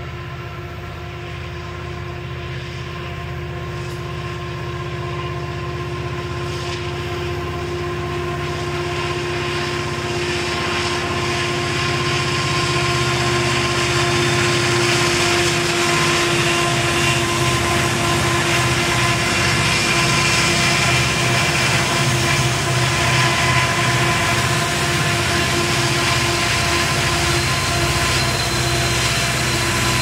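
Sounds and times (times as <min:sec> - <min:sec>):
diesel locomotive engine drone: 0:00.0 - 0:30.0
steady whine: 0:00.0 - 0:30.0.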